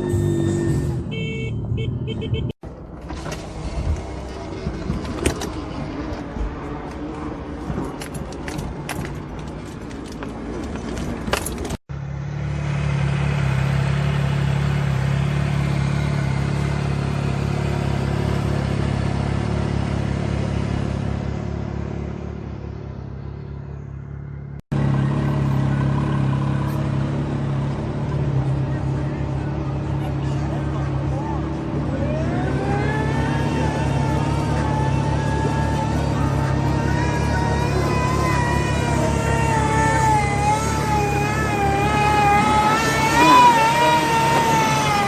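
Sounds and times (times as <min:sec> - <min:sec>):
off-road vehicle engine rumbling: 0:00.0 - 0:45.0.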